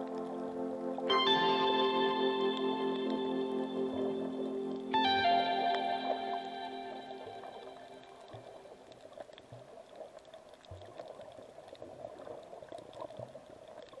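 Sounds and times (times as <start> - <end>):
underwater bubbling and crackling: 0.0 - 14.0.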